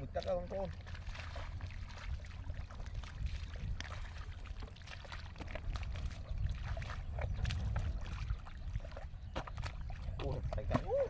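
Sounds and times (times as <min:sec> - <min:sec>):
water splashing by hand: 0:00.0 - 0:11.0.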